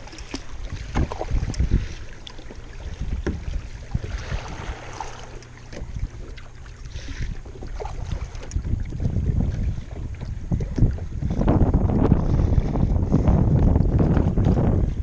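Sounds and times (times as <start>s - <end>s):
paddle splashing in water: 0.0s - 14.7s
wind buffeting microphone: 0.0s - 15.0s.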